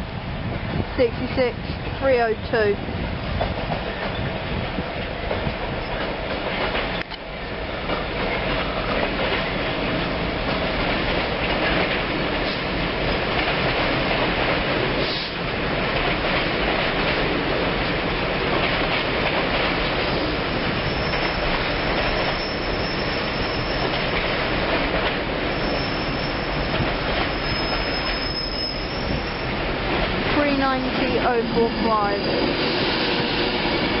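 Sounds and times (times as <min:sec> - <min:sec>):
freight train clattering over rails: 0:00.1 - 0:34.0.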